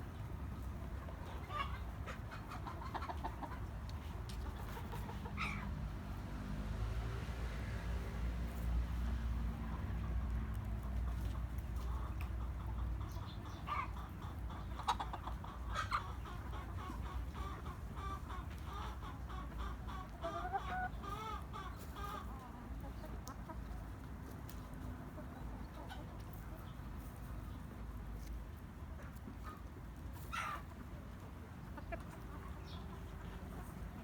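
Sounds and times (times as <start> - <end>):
chickens clucking: 0.0 - 6.8, 7.4 - 34.0.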